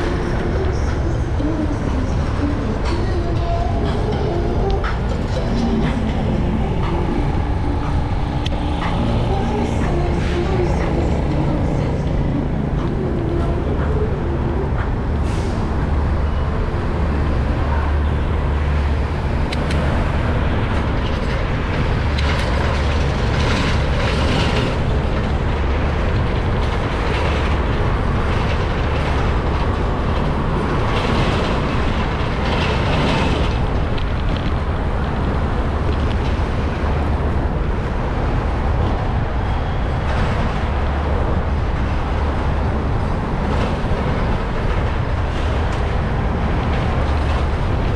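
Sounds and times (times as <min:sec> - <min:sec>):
city street traffic rumble: 0:00.0 - 0:47.9.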